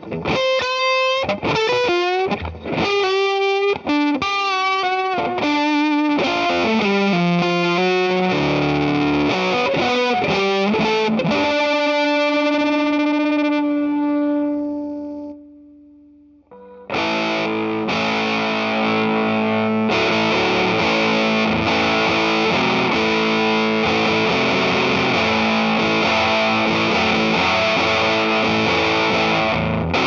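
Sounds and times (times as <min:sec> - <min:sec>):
fuzzed guitar chord: 0:00.0 - 0:30.0
fuzzy electric guitar notes: 0:00.0 - 0:30.0.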